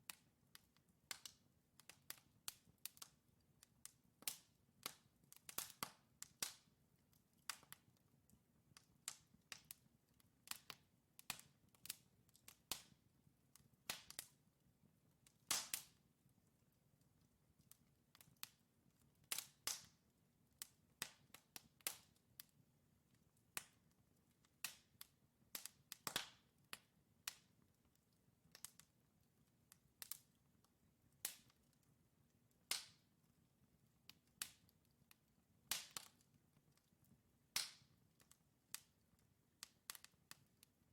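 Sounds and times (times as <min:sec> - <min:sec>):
faint low rumble of flames: 0:00.0 - 0:40.9
burning logs crackling and popping: 0:00.1 - 0:40.9.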